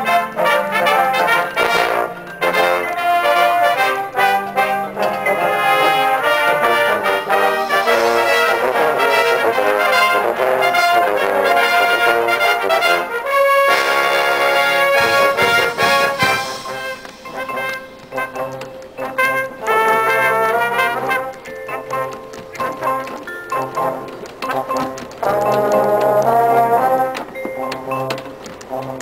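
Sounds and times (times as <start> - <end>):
brass line playing: 0.0 - 29.0.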